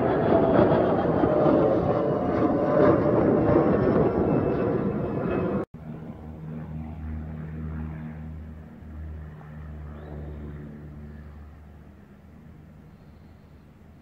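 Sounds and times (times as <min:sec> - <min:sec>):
jet engine rushing: 0:00.0 - 0:14.0
low aircraft engine drone: 0:00.0 - 0:14.0.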